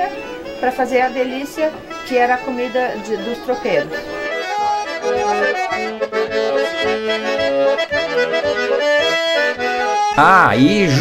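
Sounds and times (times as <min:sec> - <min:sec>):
accordion playing: 0:00.0 - 0:11.0.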